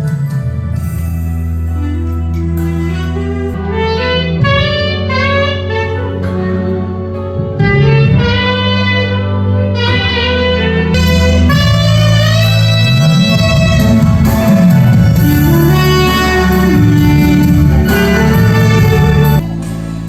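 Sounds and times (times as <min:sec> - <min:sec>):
low bass tones: 0:00.0 - 0:20.0
wind instrument melody: 0:00.7 - 0:20.0.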